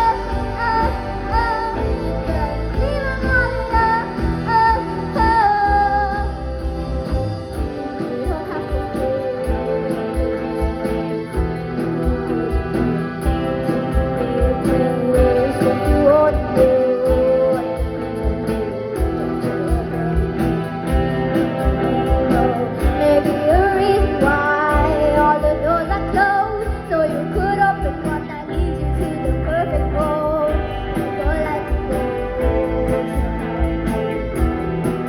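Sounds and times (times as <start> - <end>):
live rock band playing: 0.0 - 35.0
woman singing: 0.0 - 35.0.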